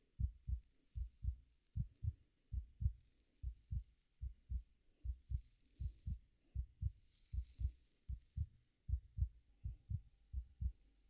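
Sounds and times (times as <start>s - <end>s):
heartbeat thumps: 0.2s - 7.7s, 8.4s - 10.8s.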